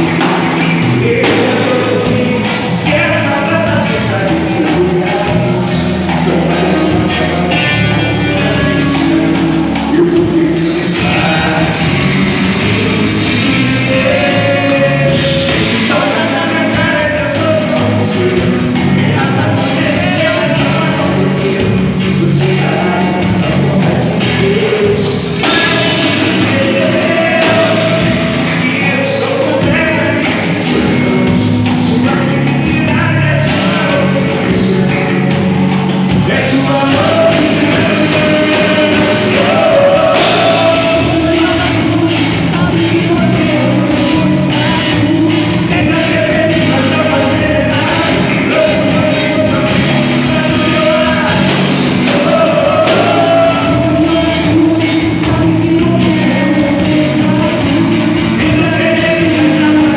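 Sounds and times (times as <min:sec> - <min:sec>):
live band with singer: 0:00.0 - 0:59.9.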